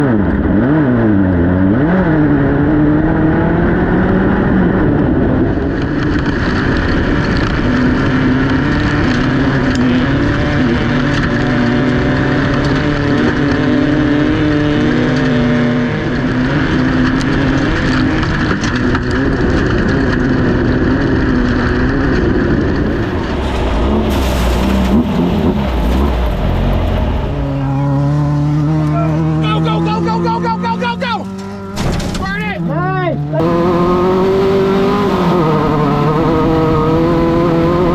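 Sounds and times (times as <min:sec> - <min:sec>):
race car engine running hard: 0:00.0 - 0:37.9
rough rattle and rush: 0:05.4 - 0:29.2, 0:31.2 - 0:37.9.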